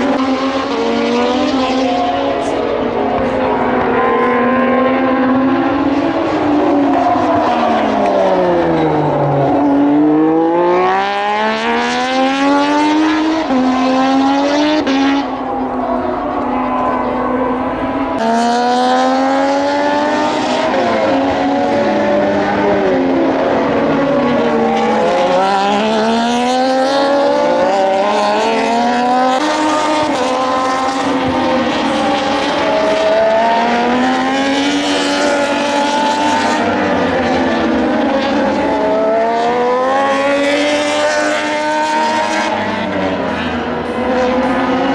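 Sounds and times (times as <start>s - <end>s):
race motorbikes passing: 0.0s - 44.9s.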